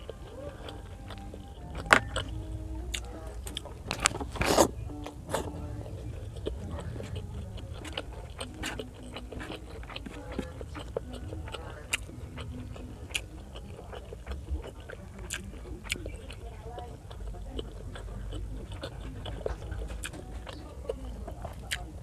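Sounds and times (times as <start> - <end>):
low steady hum: 0.0 - 22.0
person chewing: 0.0 - 22.0.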